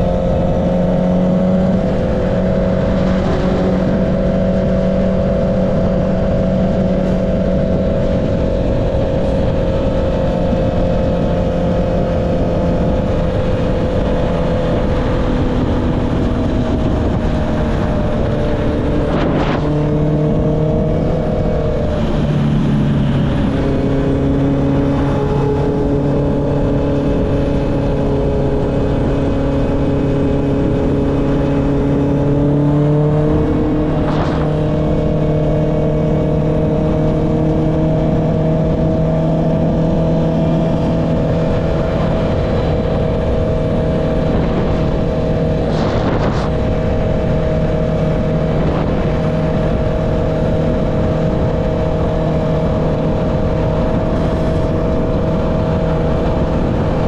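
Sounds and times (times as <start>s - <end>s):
wind rushing: 0.0s - 11.4s, 12.2s - 57.0s
motorcycle engine cruising: 0.0s - 57.0s.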